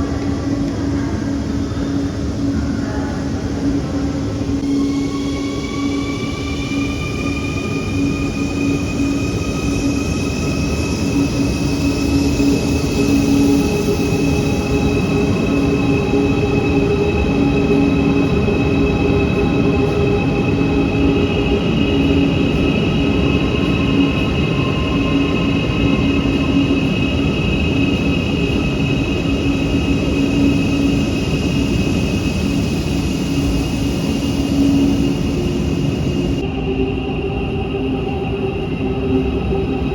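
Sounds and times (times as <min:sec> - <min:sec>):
higher whine tone: 0:03.4 - 0:36.9.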